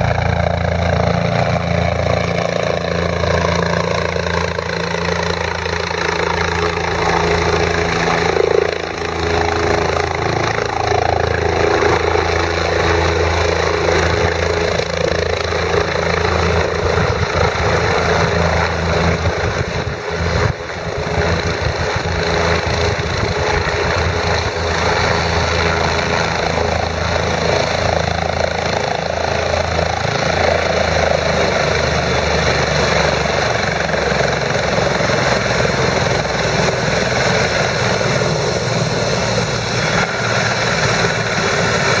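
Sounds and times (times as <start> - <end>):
helicopter rotor drone: 0.0 - 42.0
helicopter turbine whine: 0.0 - 42.0.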